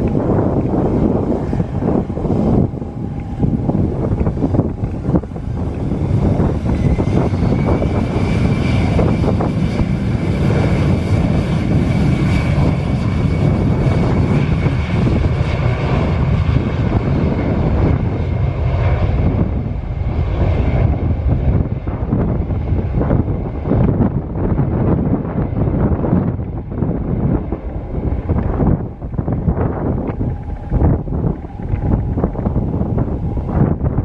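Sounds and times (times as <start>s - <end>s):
jet engines whining: 0.0s - 34.0s.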